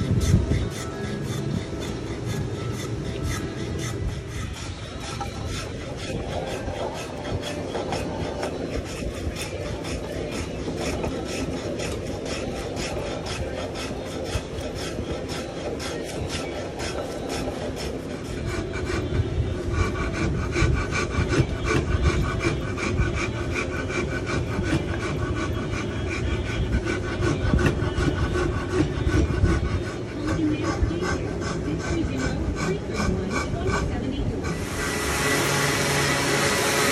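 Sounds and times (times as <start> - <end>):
rasp scraping wood: 0.0 - 36.9.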